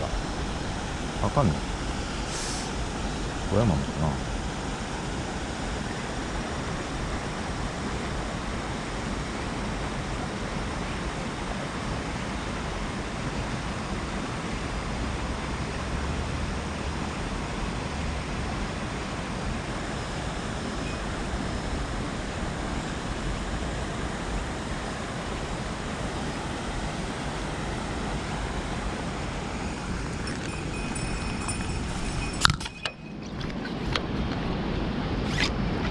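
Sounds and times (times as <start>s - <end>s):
water rushing: 0.0s - 35.9s.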